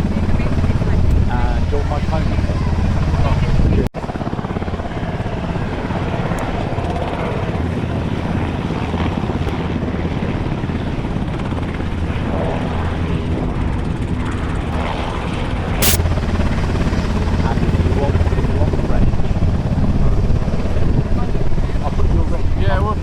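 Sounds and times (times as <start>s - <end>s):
helicopter rotors beating: 0.0s - 23.0s.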